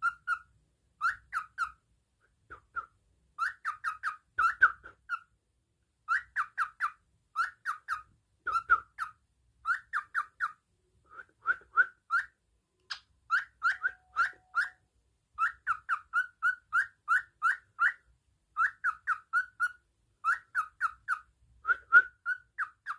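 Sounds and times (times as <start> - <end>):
cockatiel whistling: 0.0 - 1.8, 2.5 - 5.2, 6.1 - 12.4, 13.3 - 14.8, 15.4 - 22.9.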